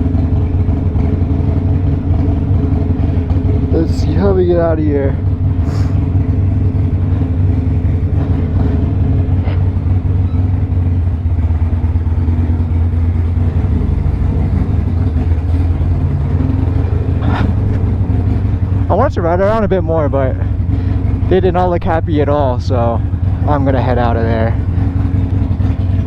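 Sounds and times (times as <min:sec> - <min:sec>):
motorcycle engine running at low revs: 0:00.0 - 0:26.0.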